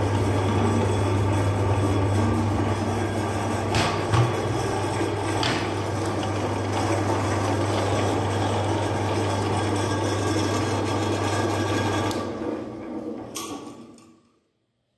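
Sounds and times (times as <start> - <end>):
meat grinder motor humming: 0.0 - 13.3.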